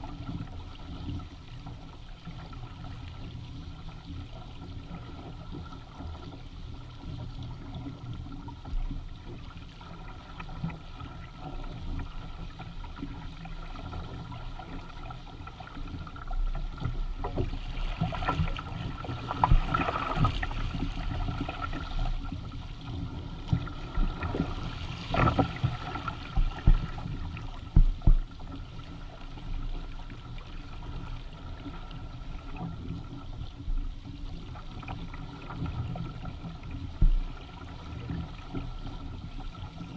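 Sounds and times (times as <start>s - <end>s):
water splashing along a hull: 0.0s - 39.9s.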